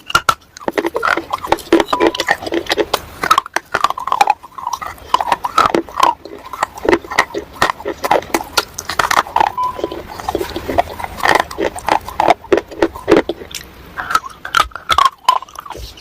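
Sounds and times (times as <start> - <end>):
crisp crunching chewing: 0.0 - 16.0
mouth noises: 0.0 - 16.0.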